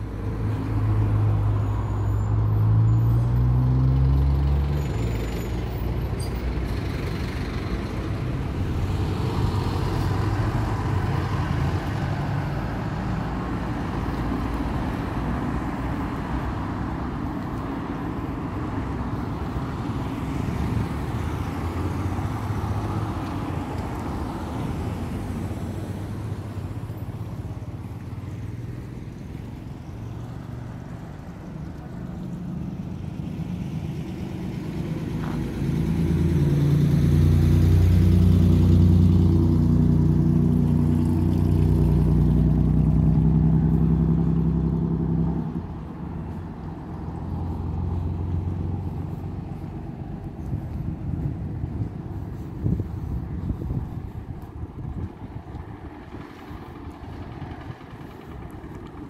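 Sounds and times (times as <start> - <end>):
vehicle engines passing: 0.0 - 59.0.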